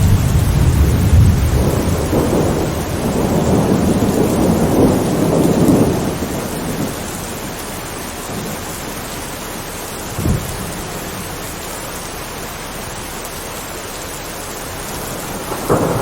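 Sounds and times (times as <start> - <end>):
thunder rumbling: 0.0 - 11.7, 14.6 - 16.0
steady rain: 0.0 - 16.0.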